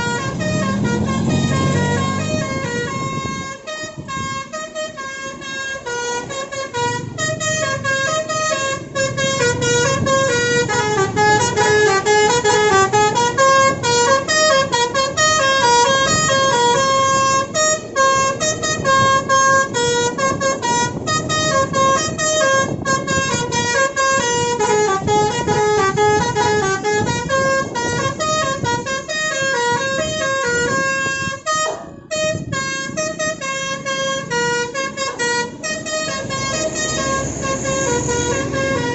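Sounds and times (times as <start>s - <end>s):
multi-tone bus horn melody: 0.0s - 38.9s.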